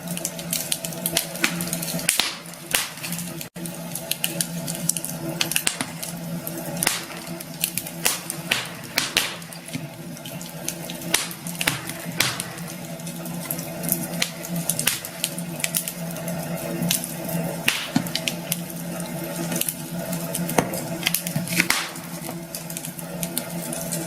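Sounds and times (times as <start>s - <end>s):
campfire crackling and popping: 0.0s - 24.0s
low steady hum: 0.0s - 24.0s.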